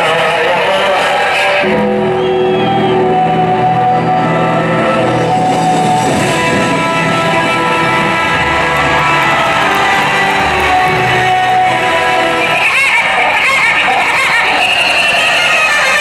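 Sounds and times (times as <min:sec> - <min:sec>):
loud guitar music with bass: 0:00.9 - 0:16.0.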